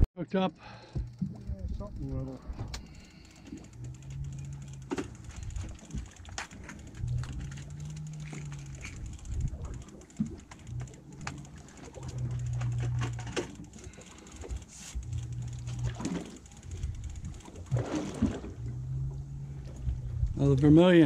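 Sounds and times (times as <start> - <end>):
low hum: 0.0 - 20.8
fishing reel clicking: 0.6 - 18.4.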